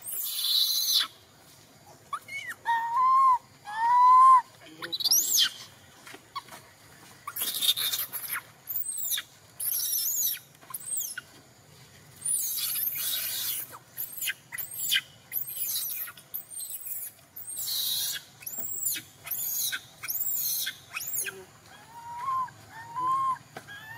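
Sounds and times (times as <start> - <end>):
baby monkey squealing and screaming: 0.0 - 1.2, 2.1 - 5.7, 7.2 - 11.2, 12.2 - 23.9.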